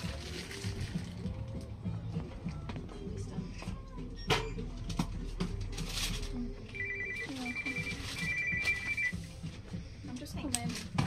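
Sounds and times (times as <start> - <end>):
shop background noise: 0.0 - 11.0.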